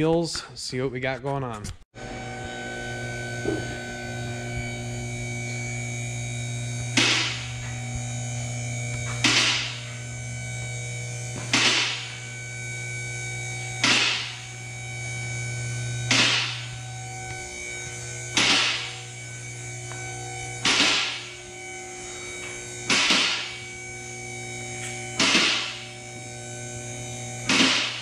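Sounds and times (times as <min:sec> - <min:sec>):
hydraulic pump motor humming: 0:02.0 - 0:28.0.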